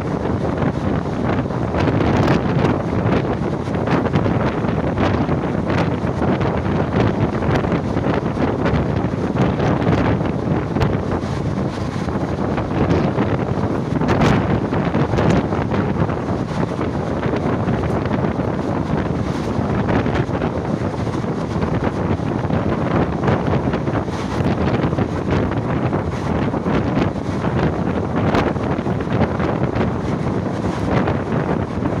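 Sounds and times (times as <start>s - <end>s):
train running noise: 0.0s - 32.0s
wind buffeting microphone: 0.0s - 32.0s.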